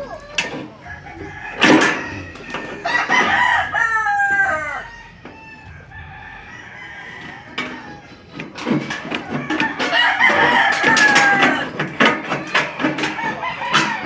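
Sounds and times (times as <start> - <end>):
rooster crowing: 0.0 - 8.4, 9.0 - 14.0.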